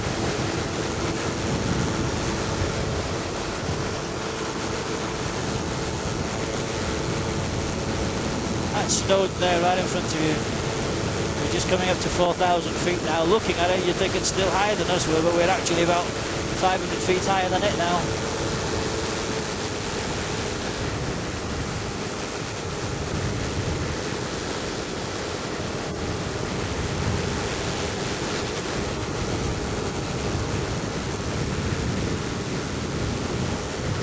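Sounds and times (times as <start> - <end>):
aircraft engine running: 0.0 - 34.0
airflow rushing: 0.0 - 34.0.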